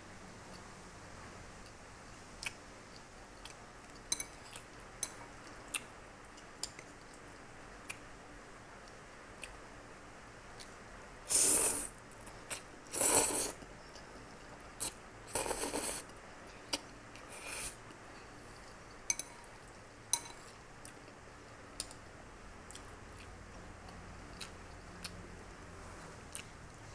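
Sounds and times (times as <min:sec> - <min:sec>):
close-up eating sounds: 0:01.6 - 0:26.9.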